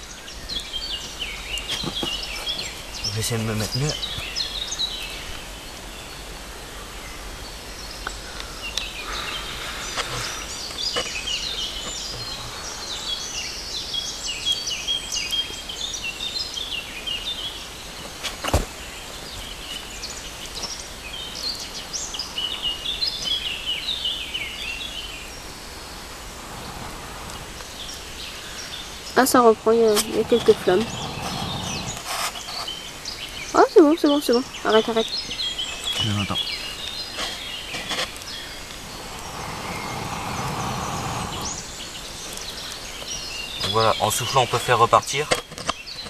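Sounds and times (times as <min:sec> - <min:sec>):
birds singing and chirping: 0:00.0 - 0:46.0
steady outdoor hiss: 0:00.0 - 0:46.0.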